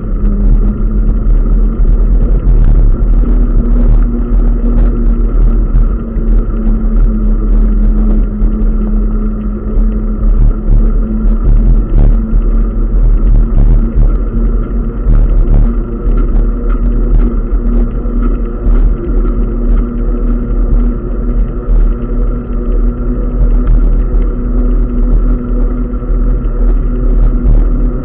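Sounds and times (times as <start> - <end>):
constant hum: 0.0 - 28.0
road and wind rumble: 0.0 - 28.0.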